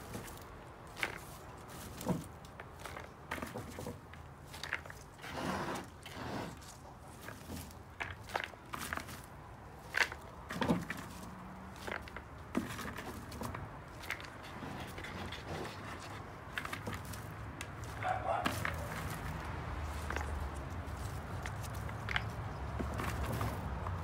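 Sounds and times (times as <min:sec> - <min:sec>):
wood chips crunching and rustling: 0:00.0 - 0:24.0.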